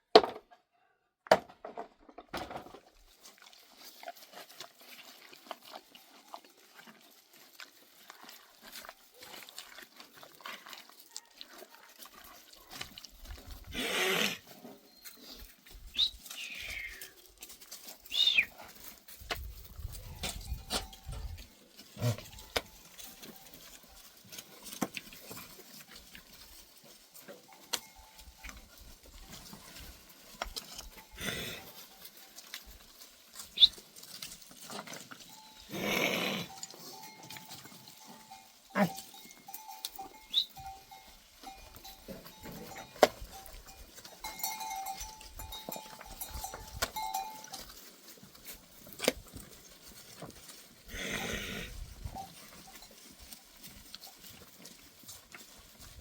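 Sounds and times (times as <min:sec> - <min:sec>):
animal bells clinking: 0:03.0 - 0:56.0
goats and sheep bleating: 0:03.2 - 0:56.0.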